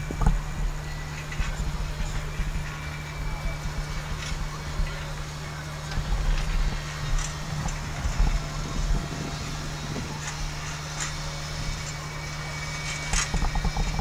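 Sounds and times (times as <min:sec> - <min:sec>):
low rumbles: 0:00.0 - 0:14.0
road traffic hum: 0:00.0 - 0:14.0.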